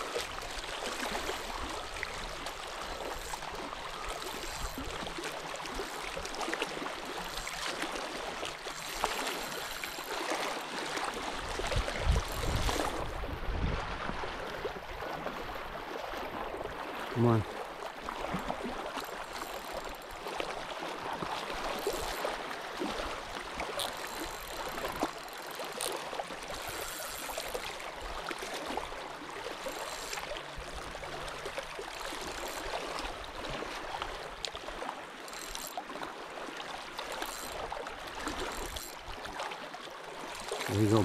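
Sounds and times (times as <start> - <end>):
water rushing and trickling: 0.0 - 41.0.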